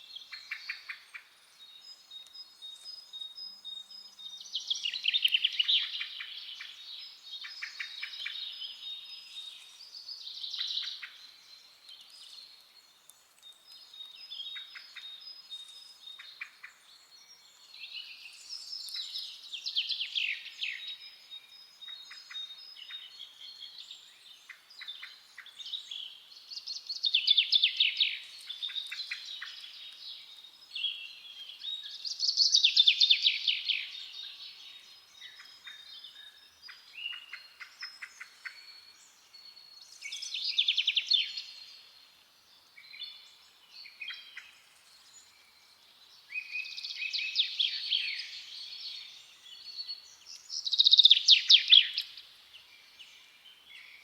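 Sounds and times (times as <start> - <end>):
soft bird calls and trills: 0.0 - 54.0.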